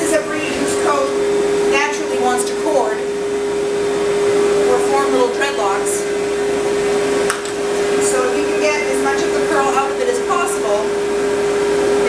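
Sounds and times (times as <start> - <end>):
grooming dryer blowing air: 0.0 - 12.0.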